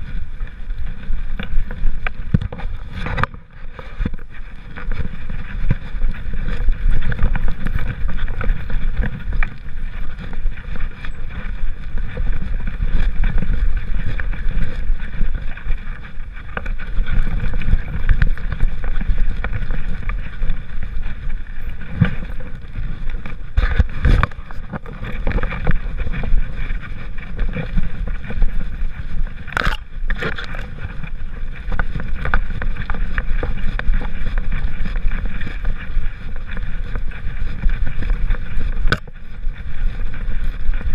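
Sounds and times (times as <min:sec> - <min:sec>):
camera rumbling and rubbing: 0:00.0 - 0:40.9
wind on microphone: 0:00.0 - 0:40.9.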